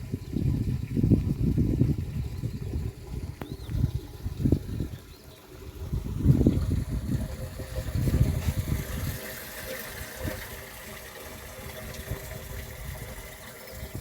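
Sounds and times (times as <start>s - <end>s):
rainwater gushing: 0.0s - 14.0s.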